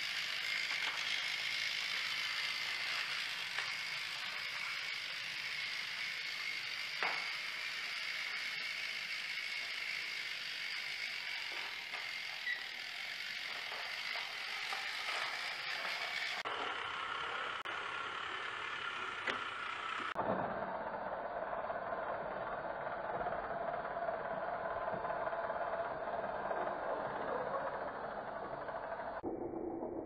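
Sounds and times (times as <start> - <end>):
toy train motor whirring: 0.0 - 20.2, 21.2 - 29.2.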